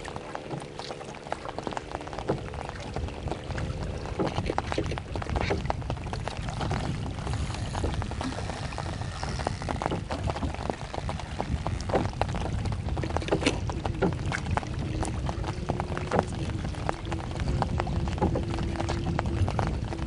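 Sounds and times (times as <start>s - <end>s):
water splashing and dripping: 0.0s - 20.0s
wind rumble on microphone: 0.0s - 20.0s.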